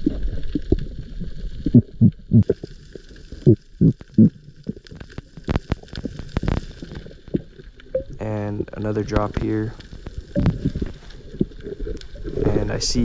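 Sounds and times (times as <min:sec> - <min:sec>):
underwater bubbles gurgling: 0:00.0 - 0:13.0.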